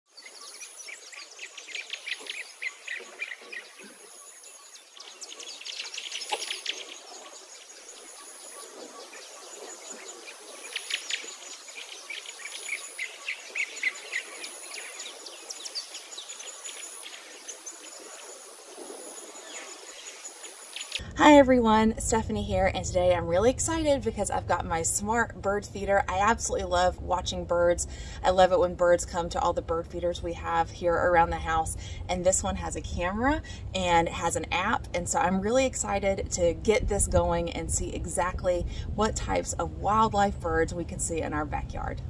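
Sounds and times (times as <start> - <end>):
songbirds chirping: 0.1 - 42.0.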